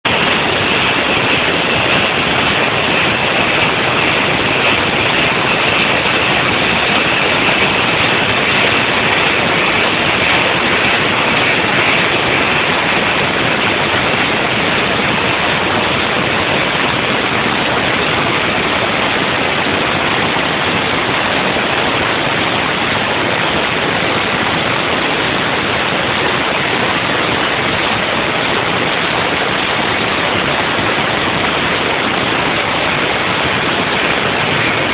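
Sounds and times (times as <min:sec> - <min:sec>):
faint high whine: 0:00.1 - 0:34.9.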